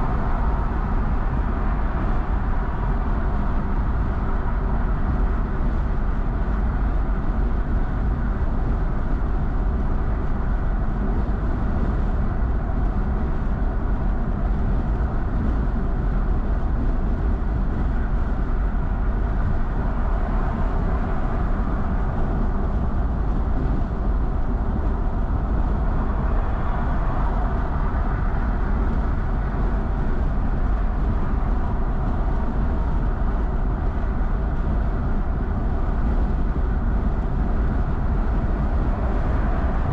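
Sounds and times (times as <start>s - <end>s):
car road noise at highway speed: 0.0s - 39.9s.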